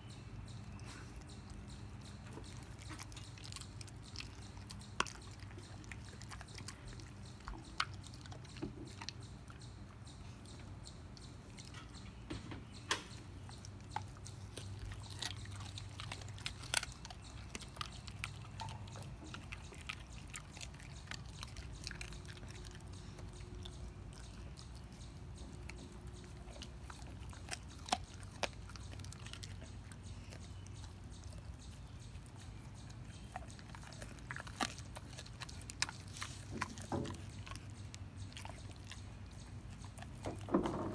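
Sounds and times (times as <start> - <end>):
teeth cracking on bone: 0.5 - 40.9
dog chewing bone: 0.8 - 40.9.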